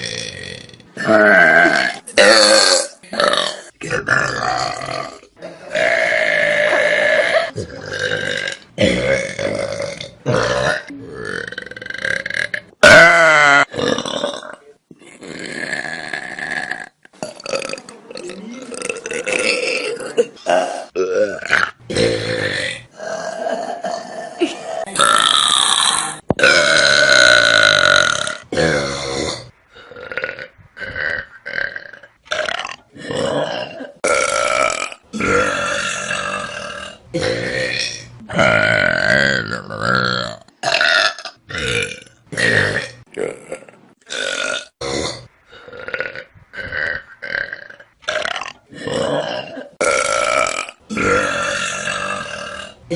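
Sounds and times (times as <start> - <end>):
person burping: 0.0 - 52.9.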